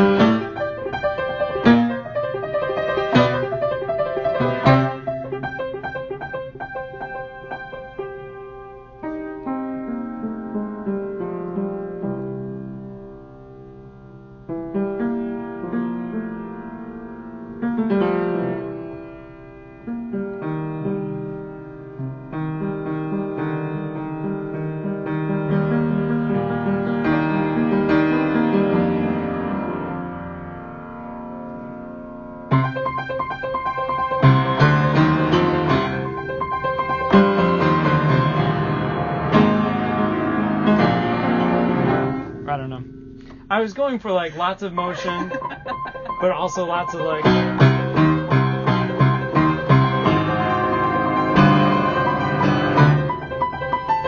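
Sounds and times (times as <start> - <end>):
piano playing runs and chords: 0.0 - 54.0.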